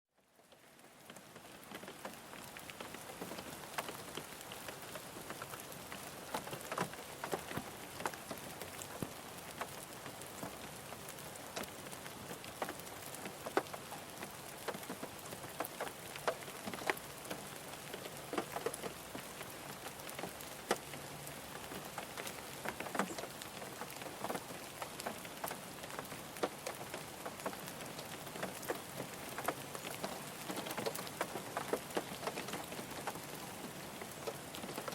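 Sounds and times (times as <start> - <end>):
rain on a car roof: 0.1 - 34.9.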